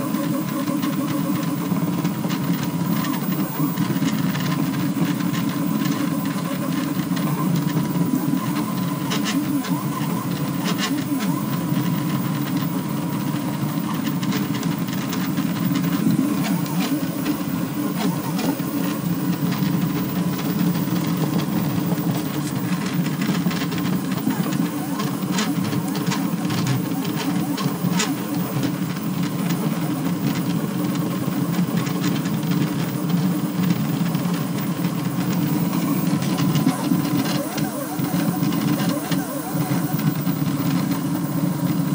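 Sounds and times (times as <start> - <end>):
three d printer motors whirring: 0.0 - 41.9.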